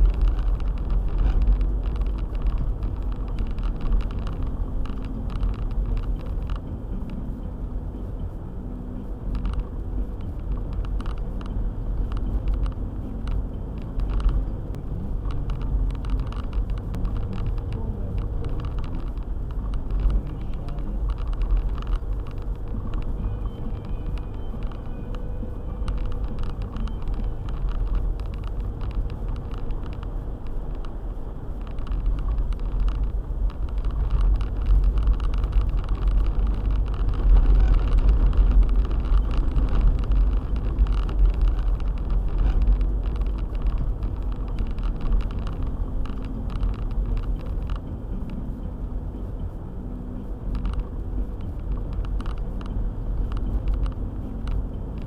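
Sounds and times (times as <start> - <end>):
small clicks and knocks: 0.0 - 7.2, 9.3 - 49.6, 50.2 - 55.0
car engine and tyres rumbling: 0.0 - 55.0.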